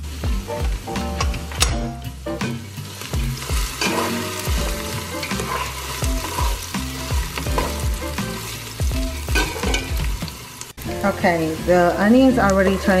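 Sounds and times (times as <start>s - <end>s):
background music with low beat: 0.0s - 13.0s
onion and garlic sizzling in oil: 0.0s - 13.0s.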